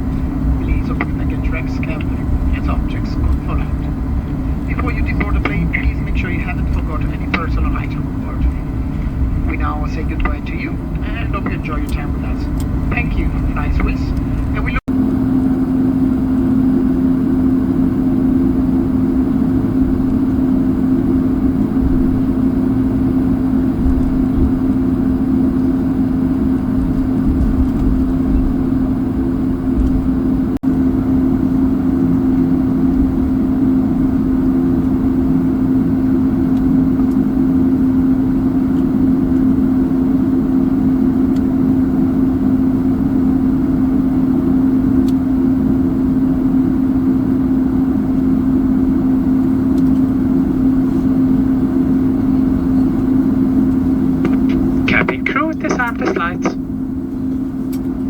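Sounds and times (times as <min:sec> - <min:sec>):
aircraft cabin drone: 0:00.0 - 0:58.0.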